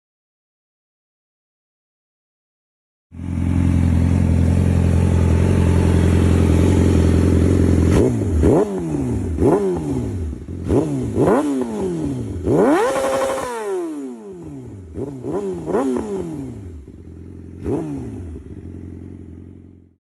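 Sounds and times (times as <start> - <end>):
motorcycle engine idling and revving: 3.1 - 20.0.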